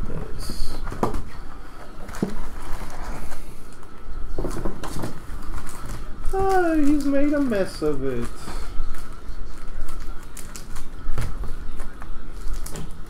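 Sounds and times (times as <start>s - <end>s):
cardboard and wrappers rustling: 0.0s - 13.0s.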